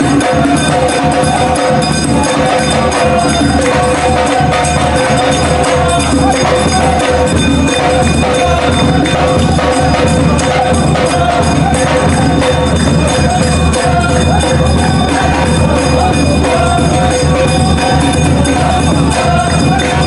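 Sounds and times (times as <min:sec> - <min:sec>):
loud music with dense percussion: 0:00.0 - 0:20.0
tambourine-like jingles: 0:00.0 - 0:20.0.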